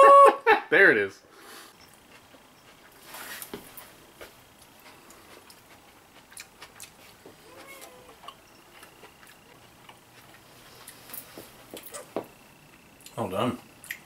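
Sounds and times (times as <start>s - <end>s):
person chewing food: 1.4s - 13.2s, 13.8s - 14.0s.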